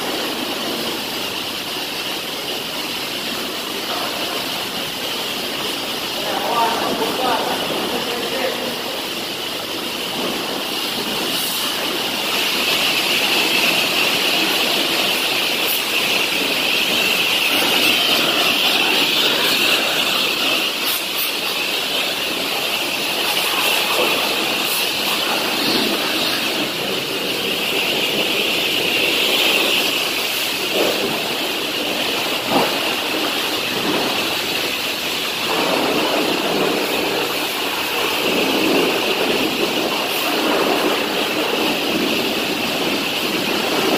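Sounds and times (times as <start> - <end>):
pressure washer spraying metal: 0.0 - 43.9.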